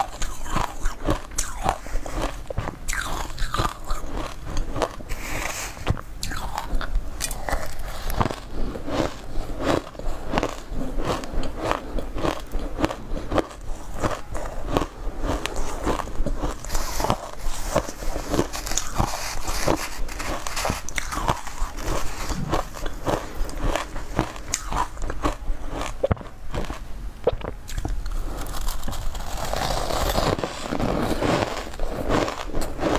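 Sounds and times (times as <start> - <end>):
crunching and chewing shaved ice: 0.0 - 32.9.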